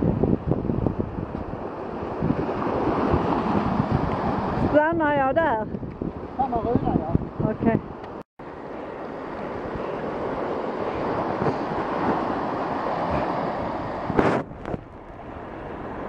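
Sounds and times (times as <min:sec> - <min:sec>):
wind on microphone: 0:00.0 - 0:08.2, 0:08.8 - 0:16.0
surf and flowing water: 0:00.0 - 0:16.0.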